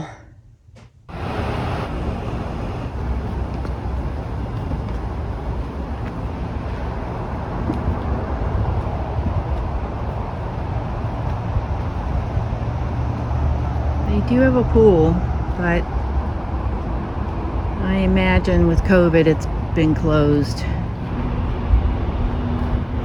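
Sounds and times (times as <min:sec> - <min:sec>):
highway traffic rumble: 0:01.1 - 0:23.0.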